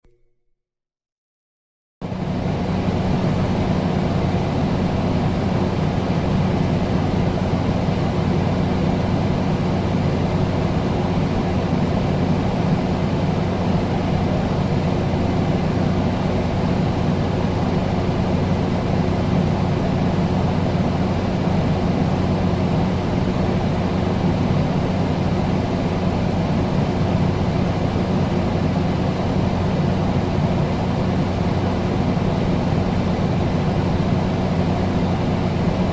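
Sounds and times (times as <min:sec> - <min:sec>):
air conditioner airflow: 0:02.0 - 0:35.9
low electrical hum: 0:02.1 - 0:35.9.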